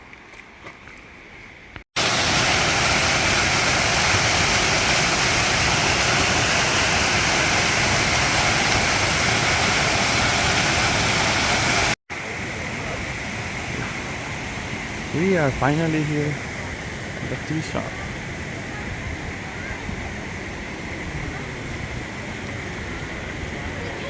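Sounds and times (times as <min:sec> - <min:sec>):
waterfall rushing: 0:02.0 - 0:24.0.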